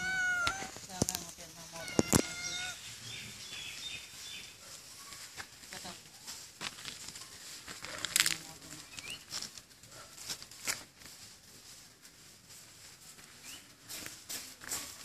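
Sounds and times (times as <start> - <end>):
foliage rustling: 0.0 - 15.0
footsteps: 0.4 - 15.0.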